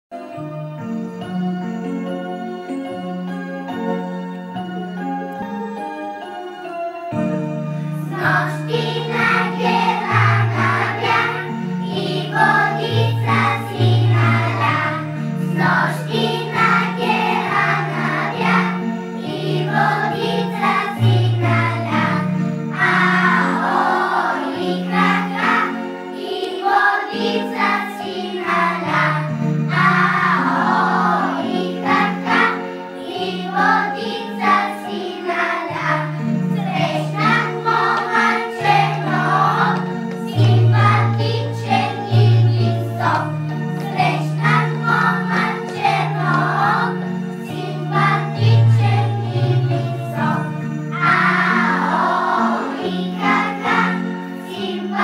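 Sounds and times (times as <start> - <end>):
folk instrumental accompaniment: 0.2 - 55.0
children singing: 8.0 - 55.0.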